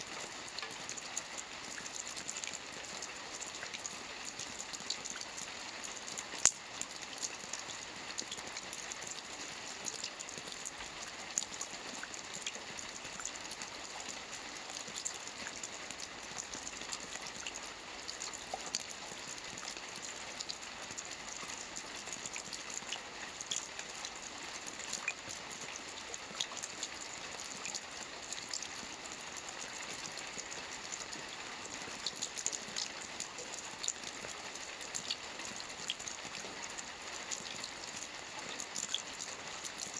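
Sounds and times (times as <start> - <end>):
soft rain on a roof: 0.0 - 39.9.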